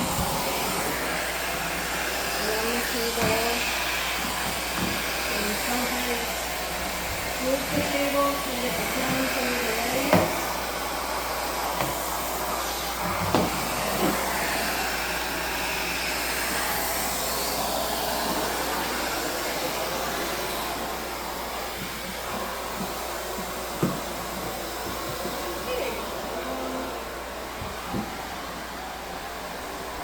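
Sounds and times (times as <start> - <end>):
vacuum cleaner drawing air: 0.0 - 30.0.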